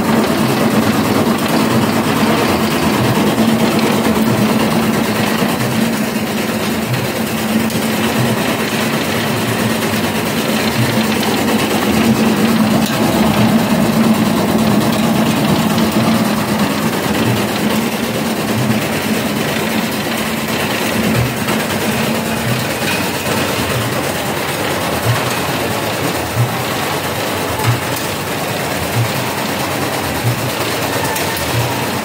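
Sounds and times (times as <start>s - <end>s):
screw conveyor humming: 0.0s - 32.0s.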